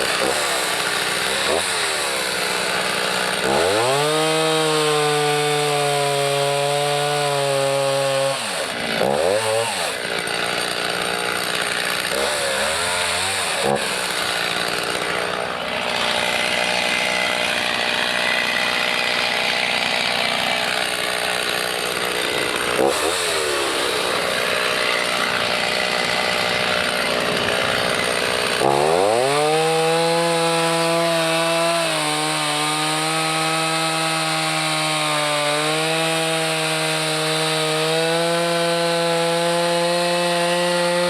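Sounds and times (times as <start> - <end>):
chainsaw cutting through wood: 0.0 - 41.0
chainsaw revving: 0.0 - 41.0.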